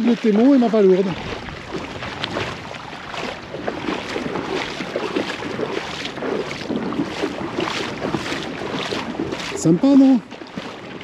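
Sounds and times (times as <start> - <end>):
footsteps on wet sand: 0.0 - 11.0.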